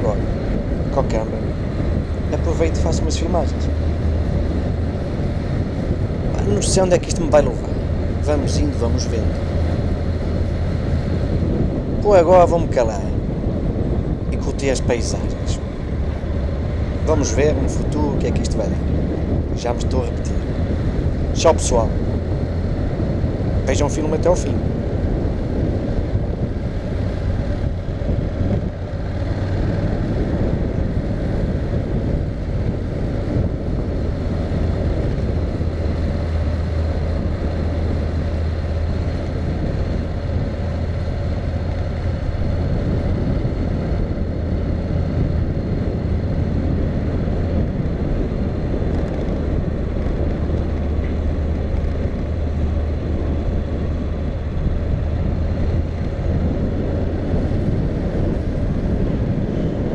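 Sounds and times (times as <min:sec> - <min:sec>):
motorcycle engine drone: 0:00.0 - 0:59.9
wind noise on microphone: 0:00.0 - 0:59.9.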